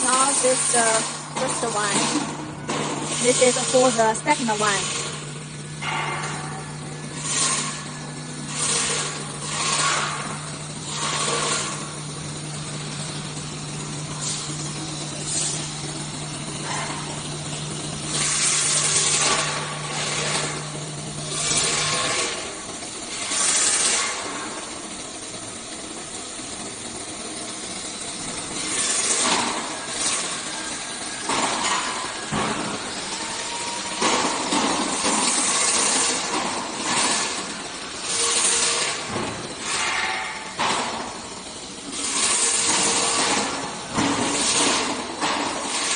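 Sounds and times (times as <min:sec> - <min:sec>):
cnc router low hum: 0:00.0 - 0:45.9
tool changer noisy bursts: 0:00.0 - 0:45.9.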